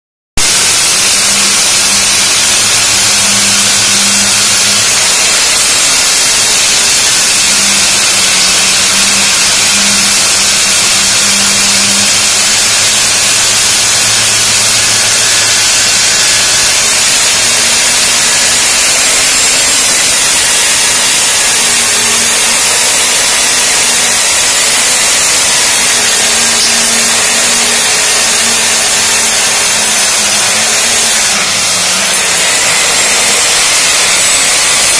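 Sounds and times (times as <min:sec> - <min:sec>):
core drill grinding through masonry: 0:00.4 - 0:34.9.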